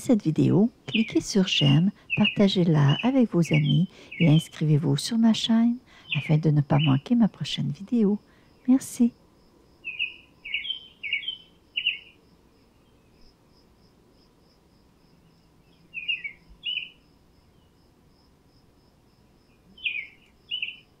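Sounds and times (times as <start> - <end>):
songbird singing: 0.0 - 13.5, 15.0 - 18.2, 19.2 - 21.0
insect chirping: 0.0 - 21.0.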